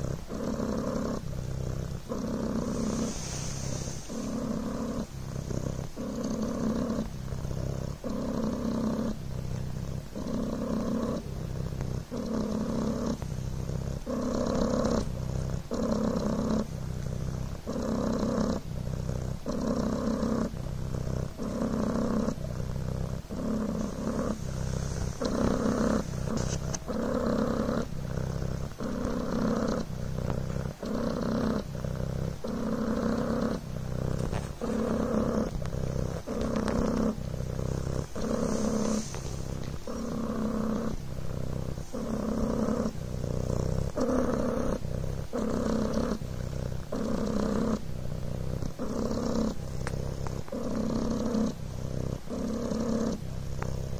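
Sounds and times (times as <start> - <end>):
cat purring: 0.0 - 53.9.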